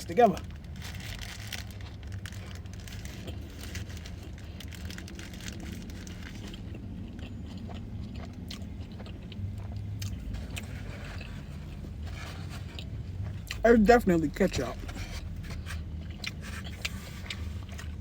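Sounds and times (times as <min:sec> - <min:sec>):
steady low hum: 0:00.0 - 0:18.0
person chewing crunchy food: 0:00.1 - 0:18.0.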